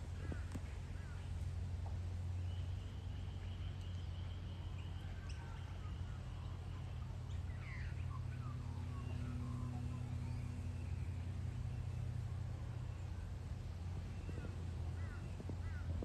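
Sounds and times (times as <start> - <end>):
steady low hum: 0.0 - 16.0
faint bird calls: 0.1 - 1.4, 2.2 - 16.0.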